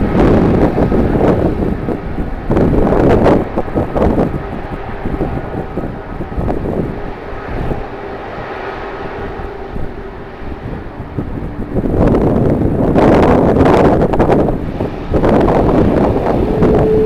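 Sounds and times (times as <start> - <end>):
jet engines humming: 0.0 - 17.0
wind buffeting microphone: 0.0 - 17.0.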